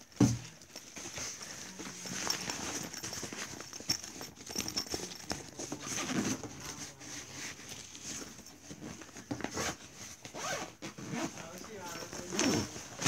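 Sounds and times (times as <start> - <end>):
nylon bag rustling: 0.0 - 13.0.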